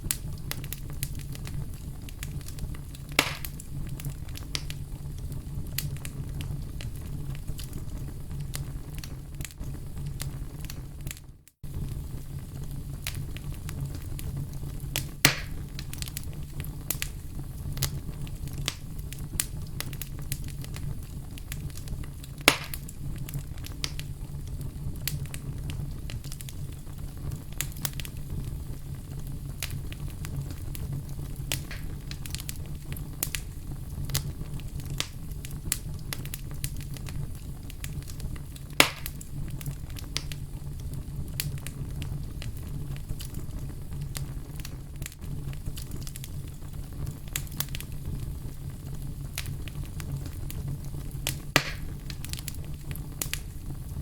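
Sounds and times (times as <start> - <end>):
fire crackling: 0.0 - 54.0
loud fire pops: 0.0 - 54.0.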